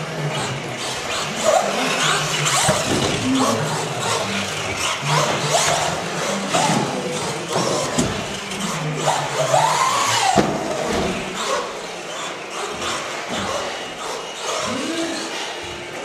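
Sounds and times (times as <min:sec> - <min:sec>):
electric toy car motor whine: 0:00.0 - 0:16.0.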